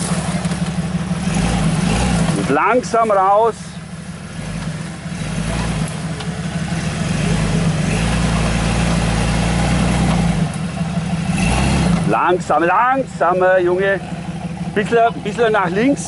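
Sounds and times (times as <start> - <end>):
vehicle engine at low revs: 0.0 - 16.0.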